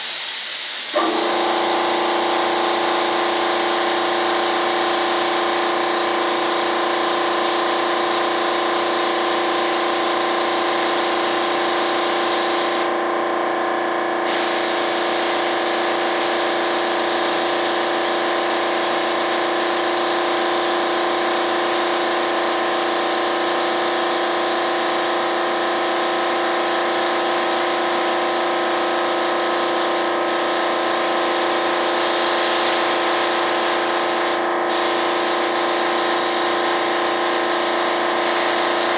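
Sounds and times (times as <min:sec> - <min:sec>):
spray gun hissing: 0:00.0 - 0:12.9, 0:14.2 - 0:38.9
air compressor running: 0:00.0 - 0:38.9.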